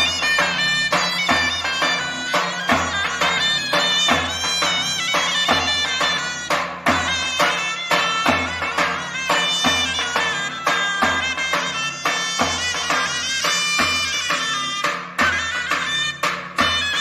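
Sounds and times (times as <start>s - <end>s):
shawm playing a folk melody: 0.0s - 17.0s.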